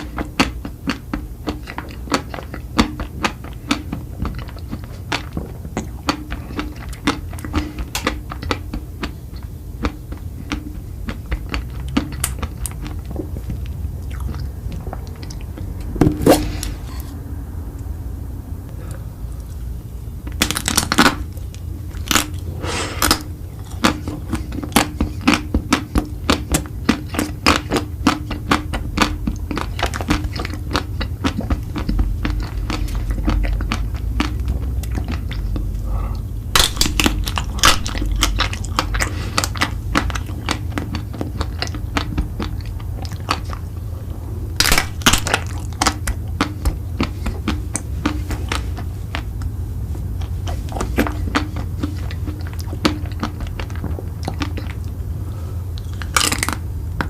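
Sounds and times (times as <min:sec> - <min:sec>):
person chewing crunchy food: 0:00.0 - 0:57.0
steady low hum: 0:00.0 - 0:57.0.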